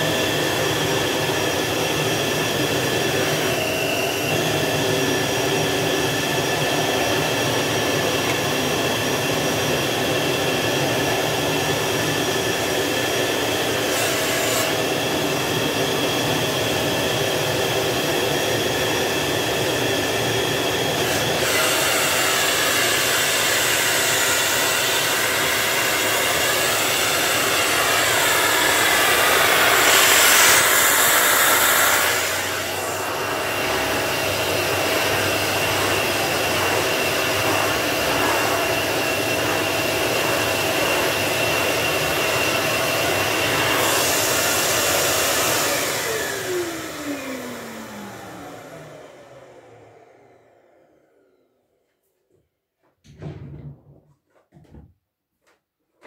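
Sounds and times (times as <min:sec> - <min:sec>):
vacuum motor spinning down: 0:00.0 - 0:13.9, 0:14.6 - 0:51.8
vacuum cleaner running: 0:00.0 - 0:51.9.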